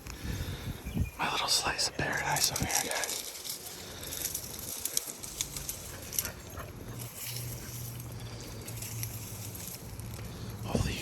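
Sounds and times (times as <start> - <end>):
sharp crackling rustles: 0.0 - 11.0.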